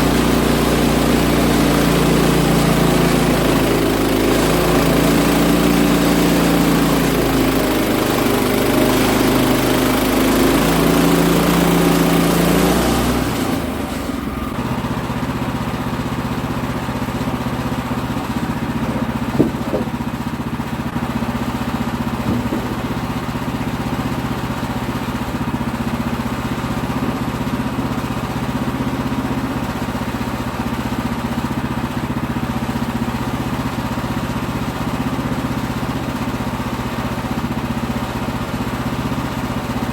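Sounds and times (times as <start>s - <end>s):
saw cutting log: 0.0s - 32.9s
sawmill engine running: 0.0s - 39.9s.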